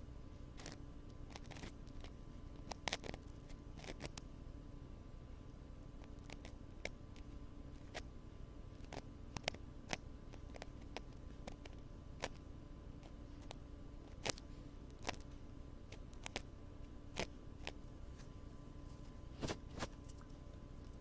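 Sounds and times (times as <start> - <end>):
faint mechanical hum: 0.0 - 21.0.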